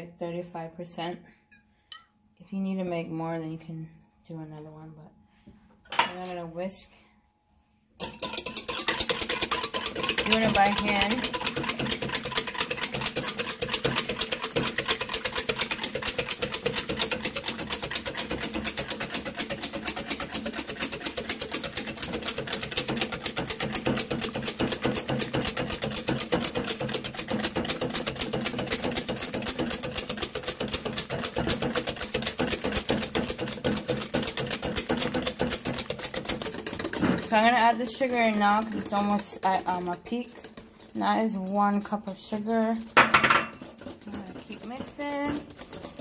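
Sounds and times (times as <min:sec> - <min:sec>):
whisk clicking against metal bowl: 0:08.0 - 0:46.0.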